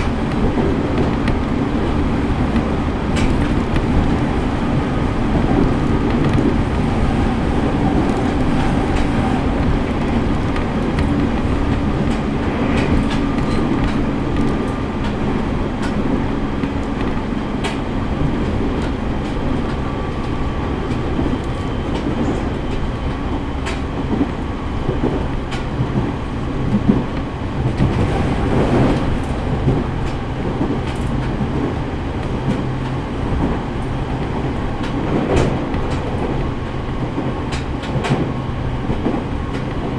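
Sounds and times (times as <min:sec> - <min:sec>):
rail joint clicks: 0:00.0 - 0:39.9
train wheels rumbling on track: 0:00.0 - 0:39.9.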